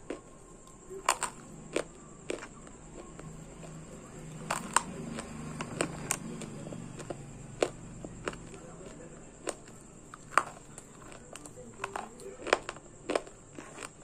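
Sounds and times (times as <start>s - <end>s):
clay being chewed crunching: 0.0s - 14.0s.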